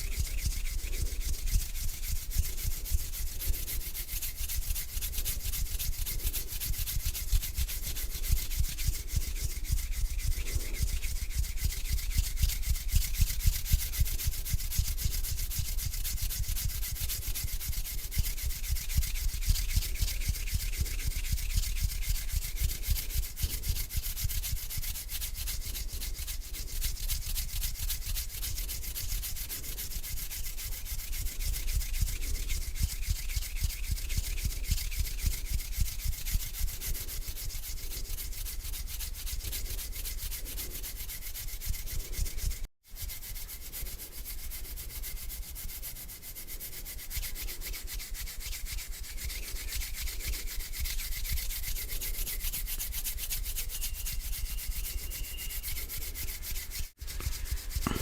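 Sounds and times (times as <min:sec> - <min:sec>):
palms rubbing together: 0:00.0 - 0:58.0.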